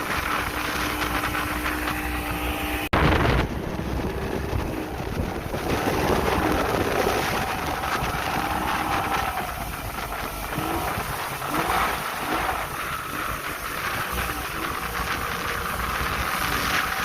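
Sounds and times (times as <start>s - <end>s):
outboard engine running: 0.0s - 17.0s
wind rushing on microphone: 0.0s - 17.0s.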